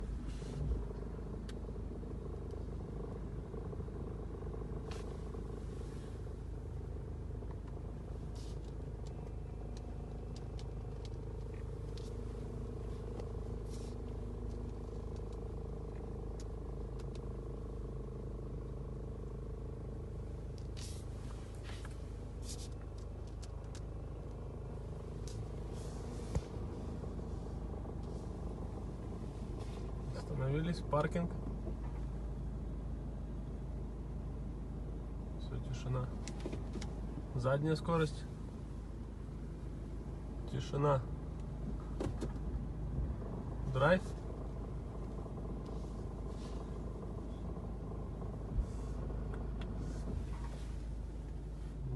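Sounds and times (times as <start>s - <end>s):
car engine low rumble: 0.0s - 51.9s
constant hum: 0.0s - 51.9s.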